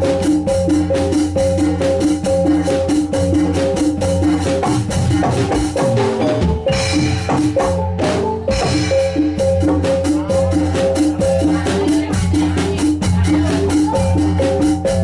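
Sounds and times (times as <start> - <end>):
drum strokes: 0.0 - 15.0
metallophones playing pattern: 0.0 - 15.0.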